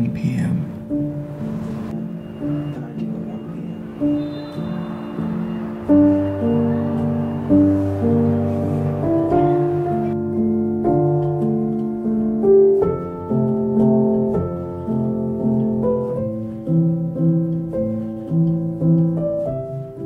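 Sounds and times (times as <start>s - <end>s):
slow gentle piano melody: 0.0s - 20.0s.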